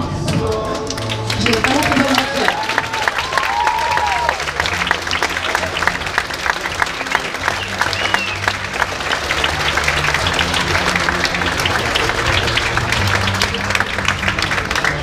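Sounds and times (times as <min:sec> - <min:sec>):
background music: 0:00.0 - 0:15.0
audience clapping: 0:00.1 - 0:15.0.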